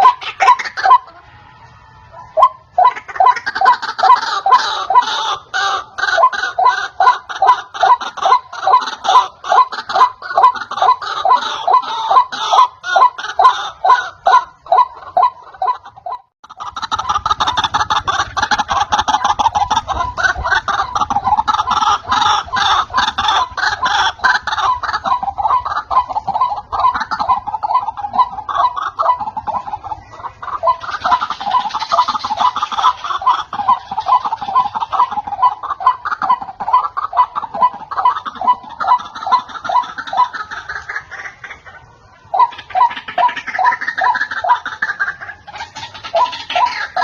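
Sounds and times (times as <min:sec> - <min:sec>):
waterhen harsh calls: 0:00.0 - 0:47.0.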